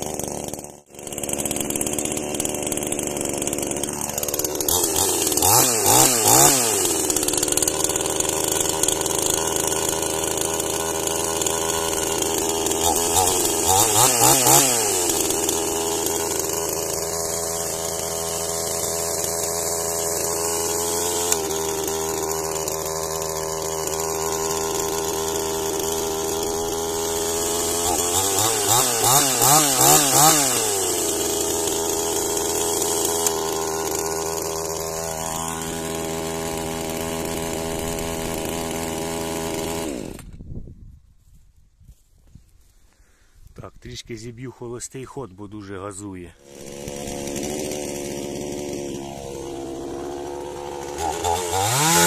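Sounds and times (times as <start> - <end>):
chainsaw idling and revving: 0.0 - 40.4, 44.2 - 52.0.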